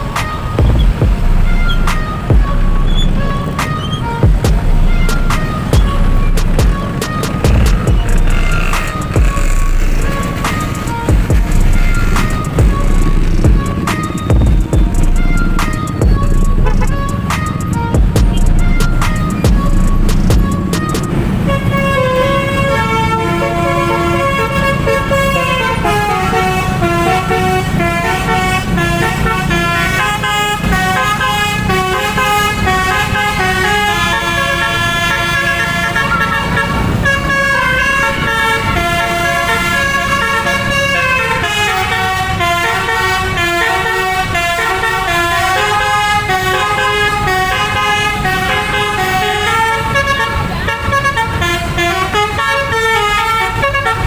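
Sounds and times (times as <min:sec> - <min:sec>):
bus engine rumble: 0:00.0 - 0:54.0
bus musical horn tune: 0:00.0 - 0:54.0.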